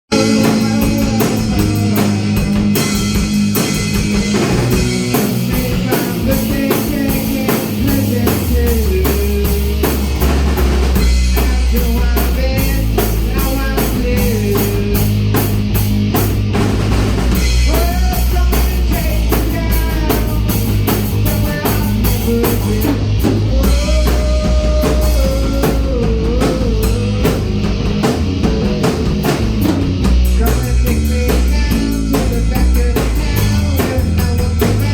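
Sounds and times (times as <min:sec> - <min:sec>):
rock music: 0:00.0 - 0:34.9.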